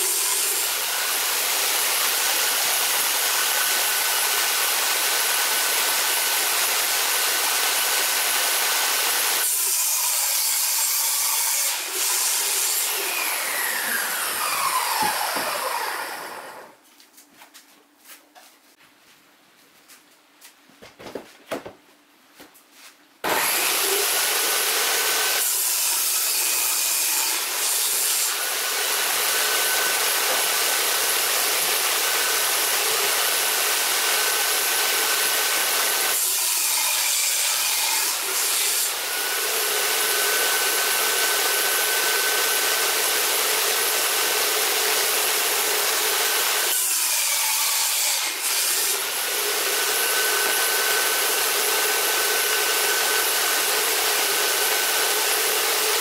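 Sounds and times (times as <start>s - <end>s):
saw blade cutting plywood: 0.0s - 16.8s, 23.2s - 56.0s
table saw whining: 0.0s - 16.8s, 23.2s - 56.0s.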